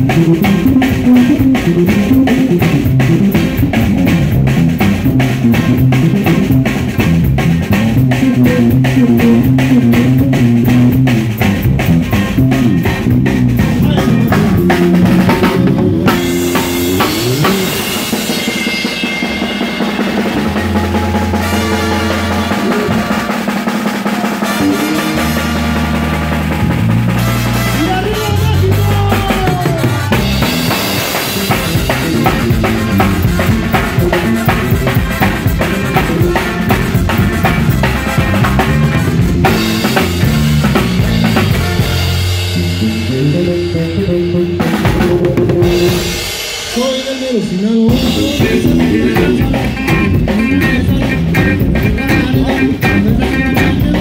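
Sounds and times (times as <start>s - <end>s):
drum kit beat: 0.0s - 54.0s
electric bass guitar: 0.0s - 54.0s.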